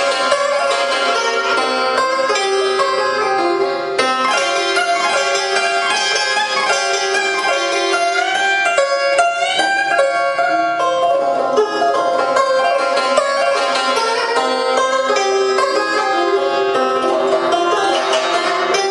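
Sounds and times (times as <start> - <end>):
plucked string instrument music: 0.0 - 18.9.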